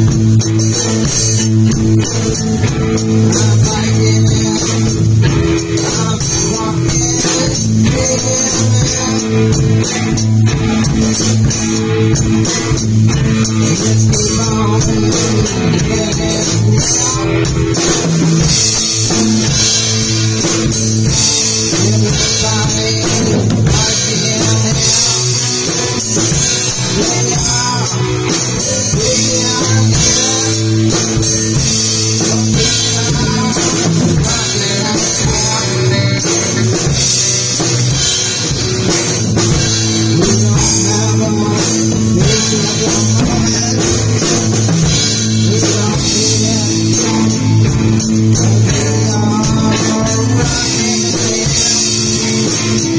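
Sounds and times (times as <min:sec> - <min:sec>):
drum kit with cymbals: 0:00.0 - 0:52.9
electric guitars: 0:00.0 - 0:52.9.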